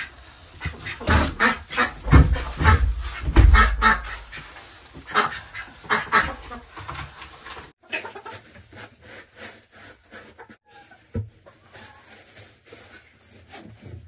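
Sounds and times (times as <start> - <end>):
scuffling in litter: 0.0 - 14.0.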